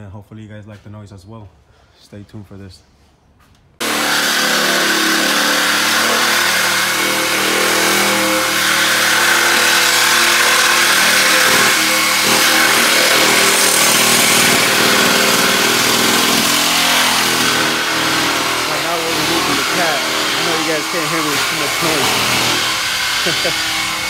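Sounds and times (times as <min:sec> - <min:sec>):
power tool cutting metal pipe: 0:03.8 - 0:24.0.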